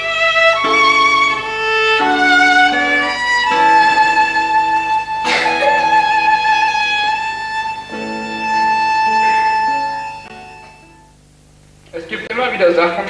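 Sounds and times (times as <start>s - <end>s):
violin playing: 0.0s - 11.1s.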